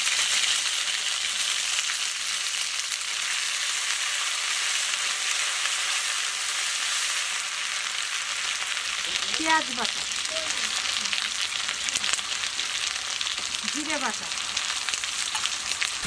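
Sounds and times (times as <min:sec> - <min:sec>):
paste sizzling in oil: 0:00.0 - 0:16.0.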